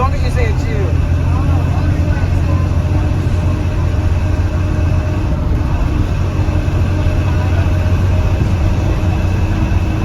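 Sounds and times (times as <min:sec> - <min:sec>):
bus engine drone: 0:00.0 - 0:10.0
road rumble: 0:00.0 - 0:10.0.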